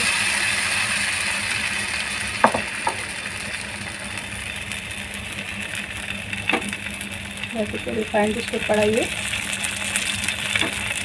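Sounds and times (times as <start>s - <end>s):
batter sizzling on hot pan: 0.0s - 11.0s.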